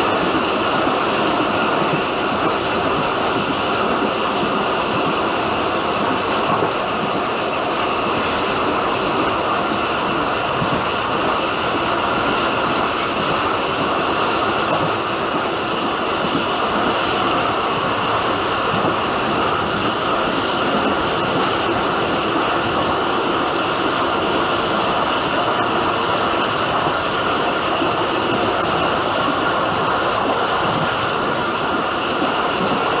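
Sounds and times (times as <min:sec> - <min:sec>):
train wheels running on rails: 0:00.0 - 0:33.0.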